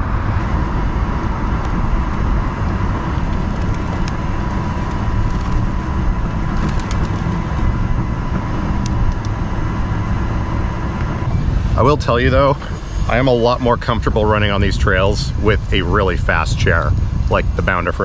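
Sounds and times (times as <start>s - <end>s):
road traffic rumble: 0.0s - 18.0s
thin high whine: 0.0s - 18.0s.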